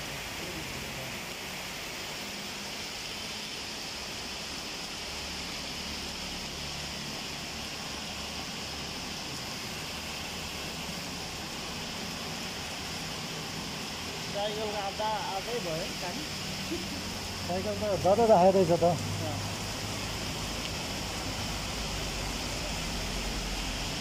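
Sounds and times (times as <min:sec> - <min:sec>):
floodwater rushing: 0:00.0 - 0:24.0
heavy rain pouring: 0:00.0 - 0:24.0.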